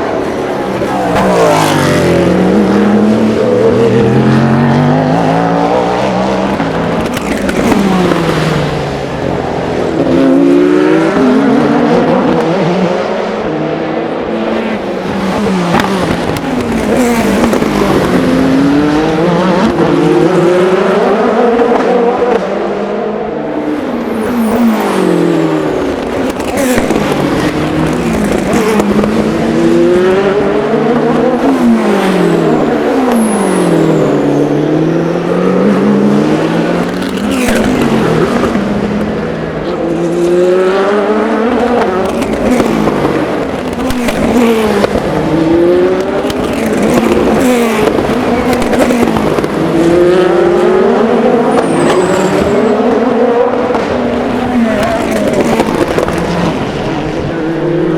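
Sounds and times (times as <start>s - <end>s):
race car engines passing: 0.0s - 57.9s.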